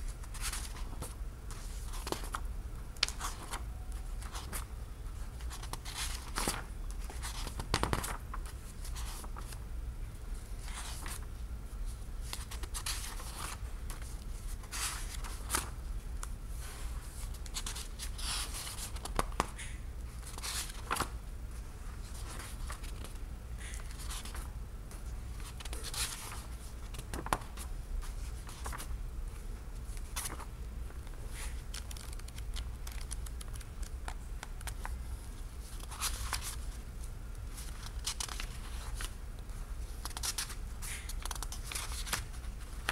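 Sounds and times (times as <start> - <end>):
book pages turning: 0.2 - 2.4, 3.0 - 4.7, 5.4 - 9.6, 10.6 - 11.3, 12.2 - 15.8, 17.1 - 19.6, 20.2 - 21.2, 22.0 - 36.7, 37.5 - 39.2, 40.0 - 42.9.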